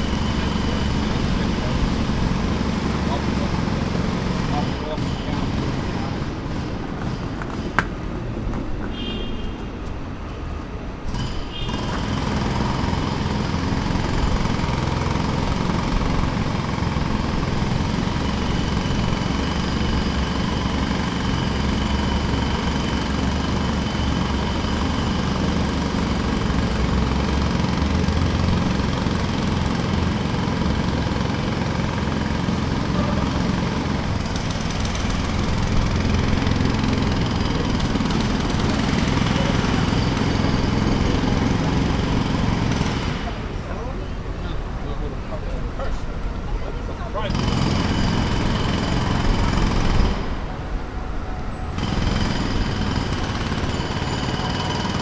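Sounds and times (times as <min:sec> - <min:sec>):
jackhammer running: 0:00.0 - 0:08.1, 0:11.0 - 0:55.0.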